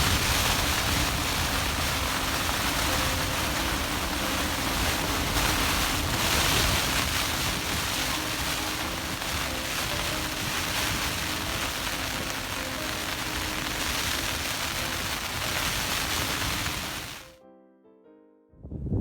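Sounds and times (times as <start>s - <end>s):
strong wind rushing: 0.0s - 17.2s
background music: 0.0s - 18.6s.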